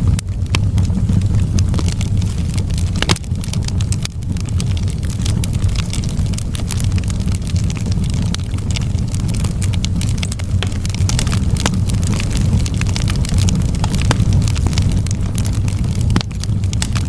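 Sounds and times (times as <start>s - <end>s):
burning wood crackling: 0.0s - 17.0s
low rumble of flames: 0.0s - 17.0s.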